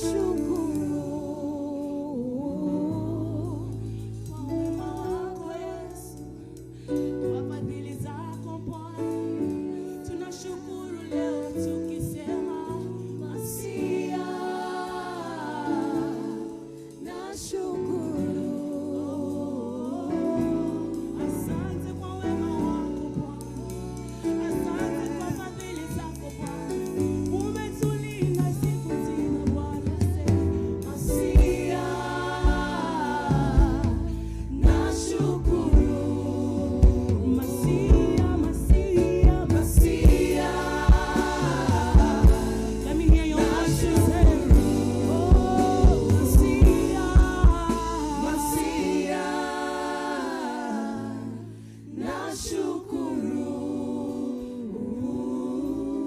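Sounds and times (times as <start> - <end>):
instrumental backing with low bass: 0.0 - 52.7
gospel singing voices: 0.0 - 56.0.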